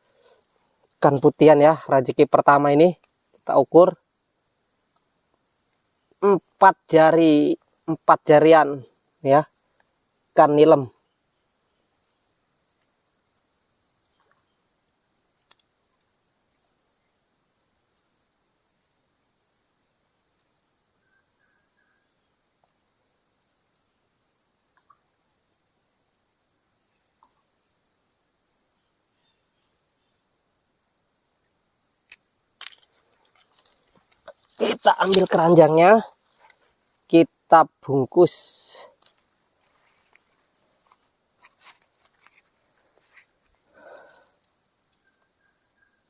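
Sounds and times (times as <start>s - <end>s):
insects chirring drone: 0.0s - 46.0s.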